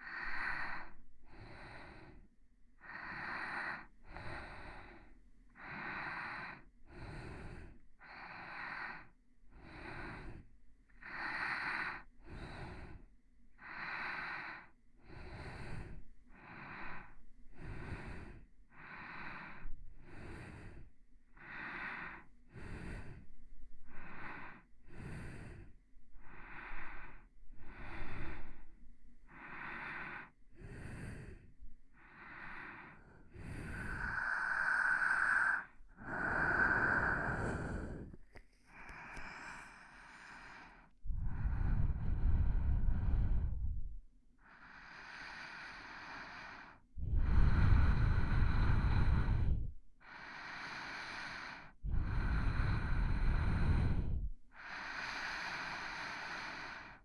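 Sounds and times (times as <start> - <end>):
person breathing slowly: 0.0 - 57.0.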